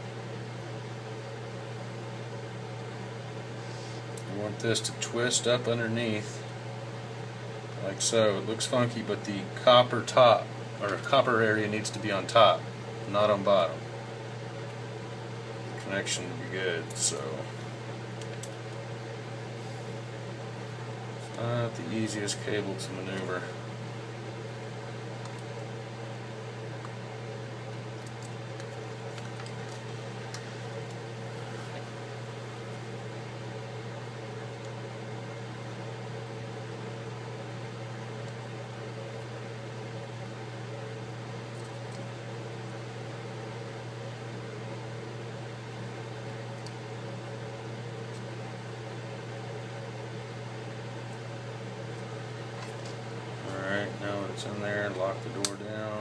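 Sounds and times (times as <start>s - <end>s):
fan hum and hiss: 0.0s - 56.0s.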